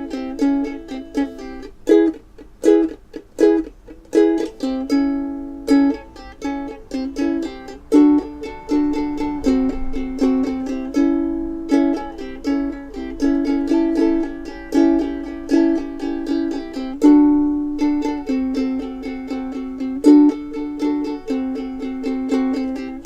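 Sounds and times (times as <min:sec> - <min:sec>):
ukulele strumming chords: 0:00.0 - 0:23.0.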